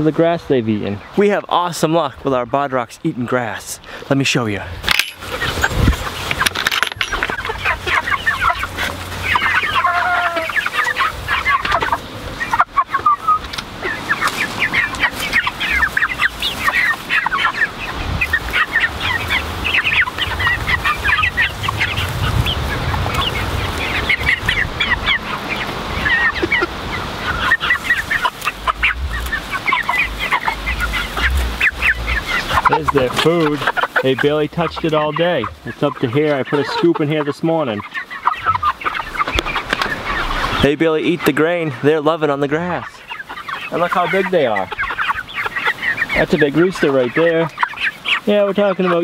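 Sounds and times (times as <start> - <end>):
chickens clucking: 0.0 - 49.0.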